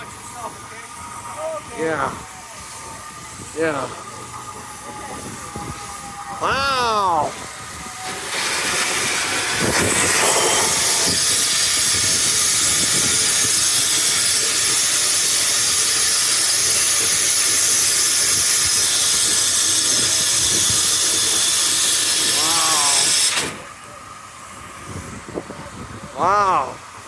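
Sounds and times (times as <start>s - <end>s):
steam locomotive venting hiss: 0.0s - 27.0s.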